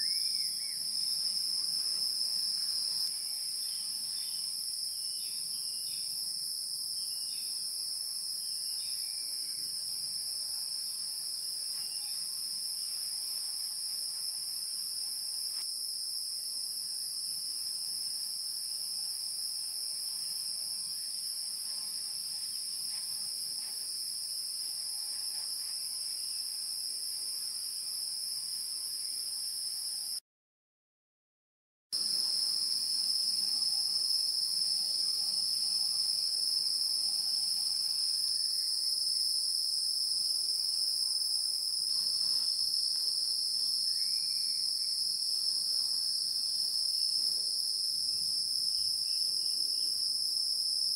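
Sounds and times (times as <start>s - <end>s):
high-pitched insect chorus drone: 0.0s - 30.2s, 32.0s - 50.9s.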